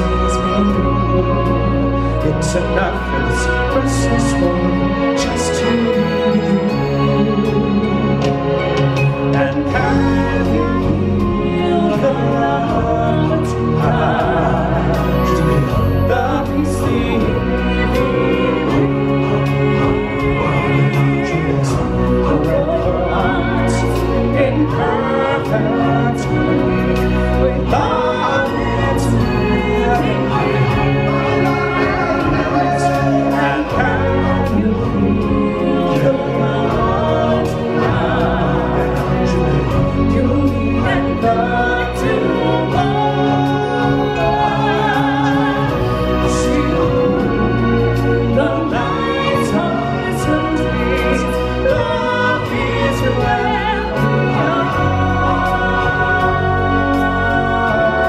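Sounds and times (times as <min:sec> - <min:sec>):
live stage music with singers: 0:00.0 - 0:58.0
orchestral accompaniment: 0:00.0 - 0:58.0.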